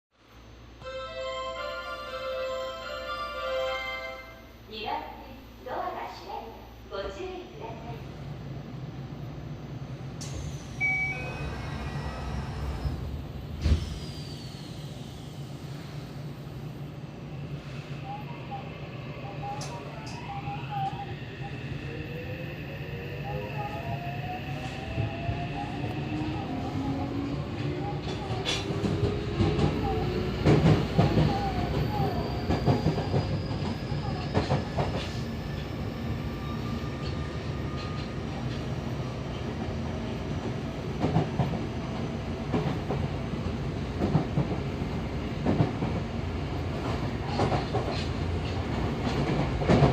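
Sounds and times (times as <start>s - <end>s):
train rumble: 4.6s - 49.9s.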